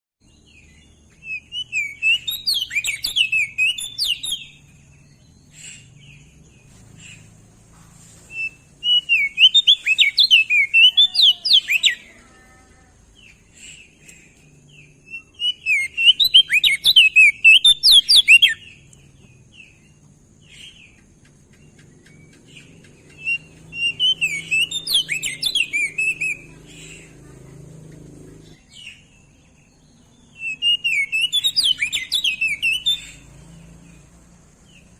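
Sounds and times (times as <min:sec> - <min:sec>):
bird warbling chirps: 0:00.5 - 0:07.5, 0:08.2 - 0:12.3, 0:13.1 - 0:21.0, 0:21.7 - 0:34.9.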